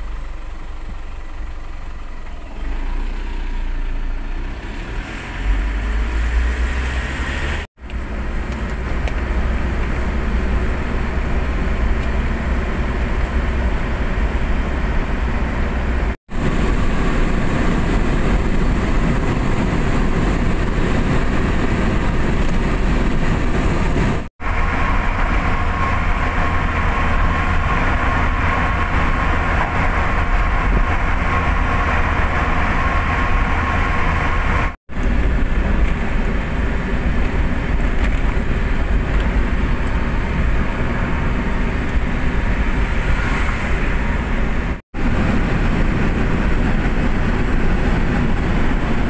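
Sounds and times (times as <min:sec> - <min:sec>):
car road and engine noise: 0:00.0 - 0:49.0.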